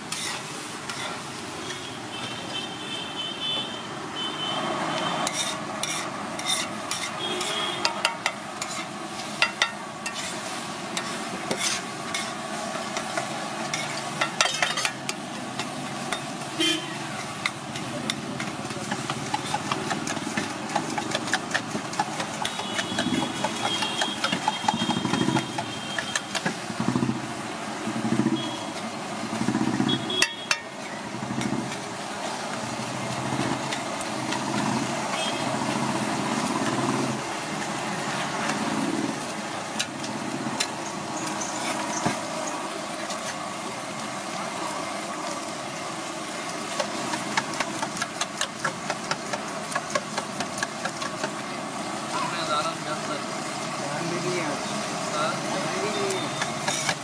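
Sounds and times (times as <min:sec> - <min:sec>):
street noise: 0:00.0 - 0:57.0.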